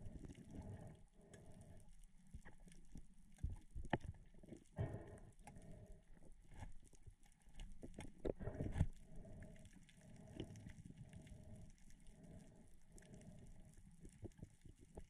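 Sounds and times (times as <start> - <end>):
muffled underwater handling noise: 0.0 - 15.0.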